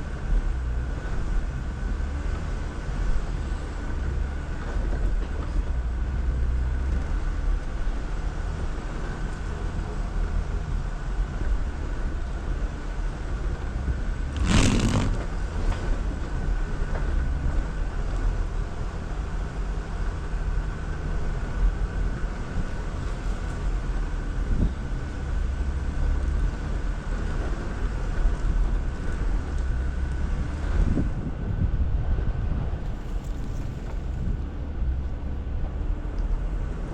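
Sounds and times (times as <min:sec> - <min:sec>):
car engine low rumble: 0:00.0 - 0:36.9.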